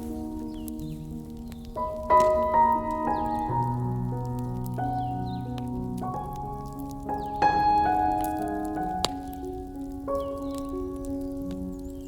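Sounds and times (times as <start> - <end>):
sharp fire pop: 0.0 - 11.8
ambient meditation music: 0.0 - 12.0
campfire crackling: 0.0 - 12.0.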